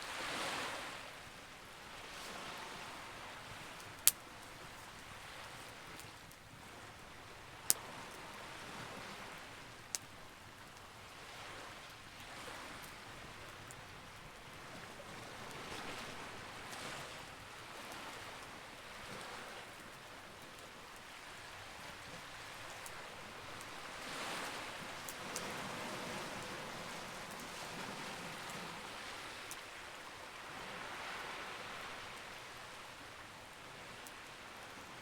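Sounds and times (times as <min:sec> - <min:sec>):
background wash like surf: 0:00.0 - 0:35.0
campfire crackling: 0:01.5 - 0:34.8.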